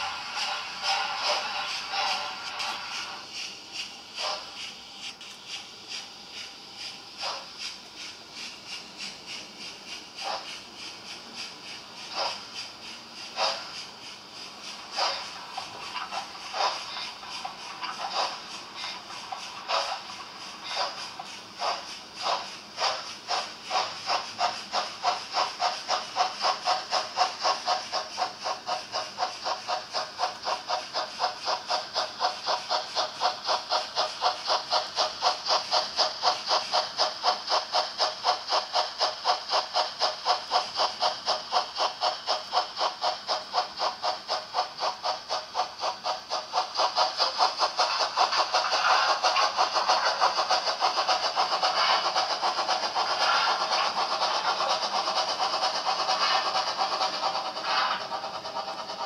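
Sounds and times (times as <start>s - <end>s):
model steam locomotive chuffing: 0.0s - 59.0s.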